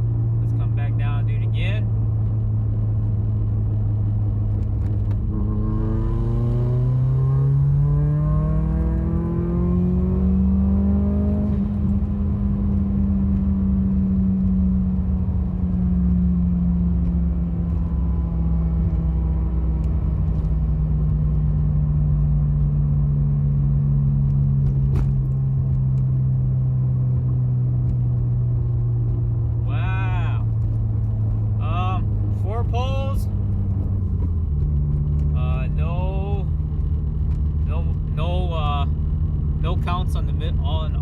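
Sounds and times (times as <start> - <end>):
car engine accelerating: 1.8 - 41.0.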